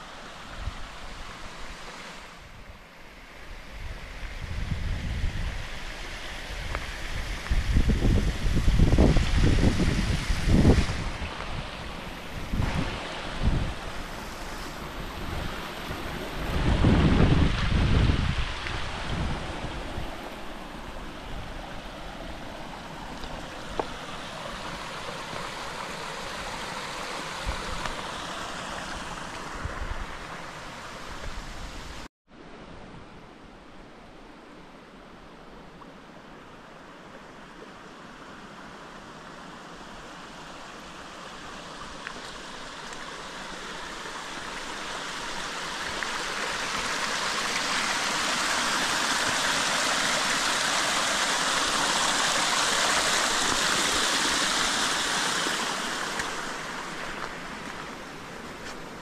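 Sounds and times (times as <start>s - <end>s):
rushing stream water: 0.0s - 59.0s.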